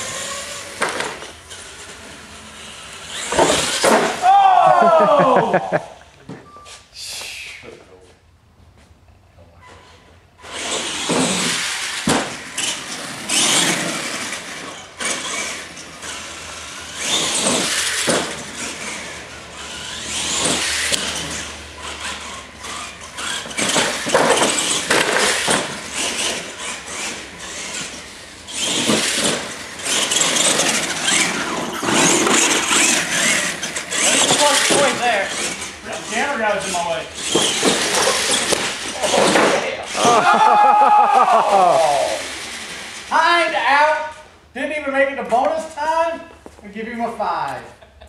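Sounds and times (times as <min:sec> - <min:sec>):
toy truck motor and gear whine: 0:00.0 - 0:04.4, 0:09.6 - 0:44.2
tires scrubbing: 0:00.0 - 0:05.9, 0:10.4 - 0:44.1.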